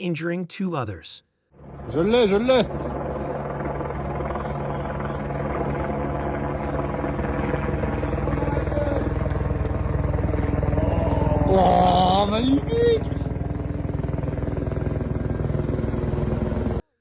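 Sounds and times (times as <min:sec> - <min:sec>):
engine running steadily: 0:01.6 - 0:16.8.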